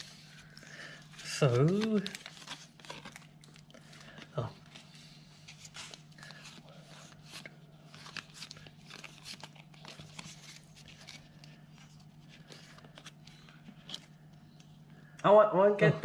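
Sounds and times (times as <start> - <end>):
faint steady hum: 0.0 - 16.0
trading cards shuffled by hand: 1.1 - 14.1.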